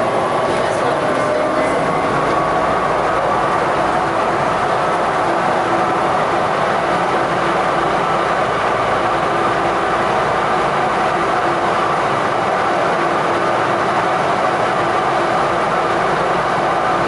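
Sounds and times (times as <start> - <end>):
faint steady whine: 0.0 - 17.0
train rolling rumble: 0.0 - 17.0.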